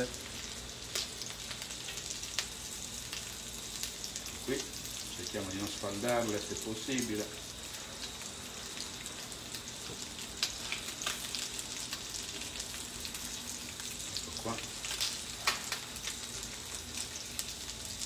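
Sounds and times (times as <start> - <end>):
fish sizzling in frying pan: 0.0 - 18.0.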